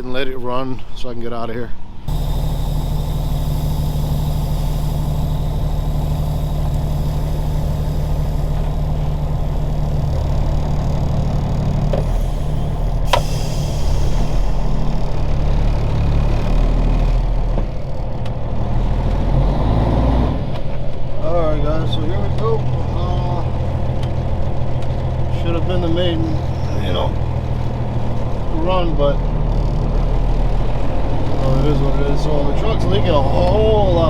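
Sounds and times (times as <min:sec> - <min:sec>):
diesel truck engine idling: 0:01.8 - 0:34.0.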